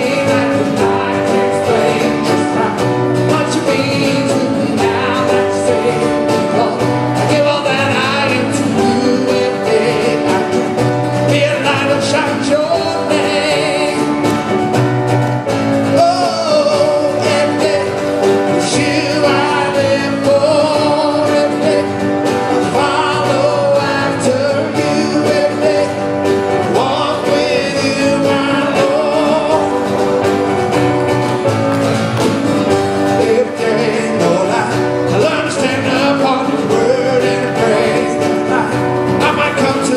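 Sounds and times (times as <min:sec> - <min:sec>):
person singing: 0:00.0 - 0:14.7, 0:15.8 - 0:39.9
drum kit: 0:00.0 - 0:39.9
guitar: 0:00.0 - 0:39.9
keyboard: 0:00.0 - 0:39.9.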